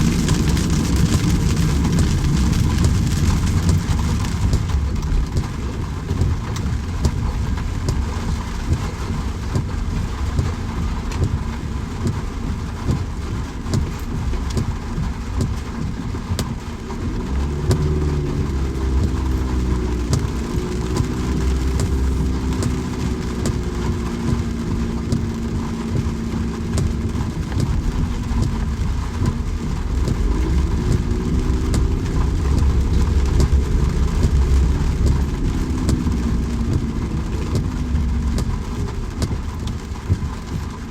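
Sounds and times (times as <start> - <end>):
steady rain: 0.0 - 40.9
vehicle engine humming: 0.0 - 40.9.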